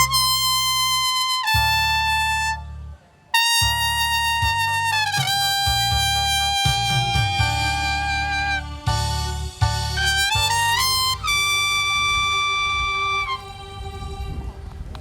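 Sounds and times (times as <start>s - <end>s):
trumpet playing slow melody: 0.0s - 14.5s.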